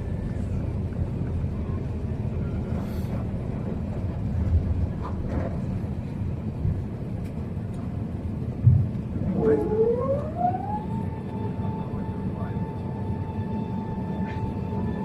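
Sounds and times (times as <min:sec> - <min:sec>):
low rumble inside aircraft cabin: 0:00.0 - 0:15.0.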